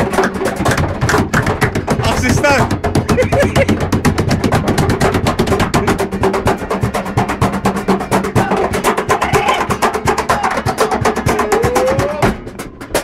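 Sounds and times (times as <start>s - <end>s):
fast percussive beat: 0.0s - 13.0s.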